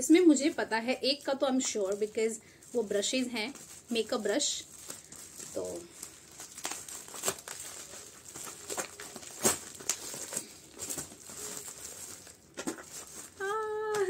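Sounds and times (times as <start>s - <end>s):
bubble wrap crinkling: 0.0s - 14.0s
scissors cutting bubble wrap: 1.6s - 14.0s.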